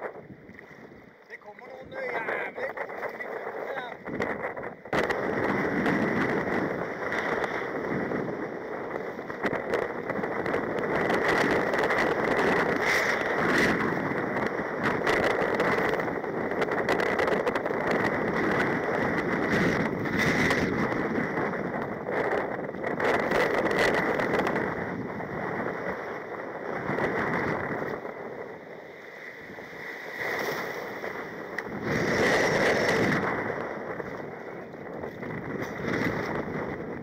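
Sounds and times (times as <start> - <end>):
choppy sea rushing: 0.0 - 37.0
wind buffeting microphone: 0.0 - 37.0.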